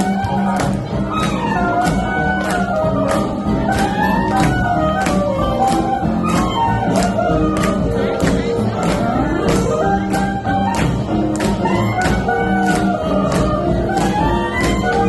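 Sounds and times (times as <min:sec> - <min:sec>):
swing jazz music: 0:00.0 - 0:15.0.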